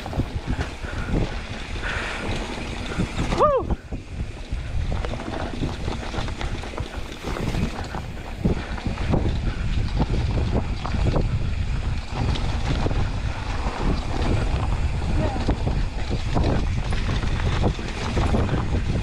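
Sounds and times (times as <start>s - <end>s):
mountain bike rattling on rocky track: 0.0s - 19.0s
wind buffeting microphone: 0.0s - 19.0s.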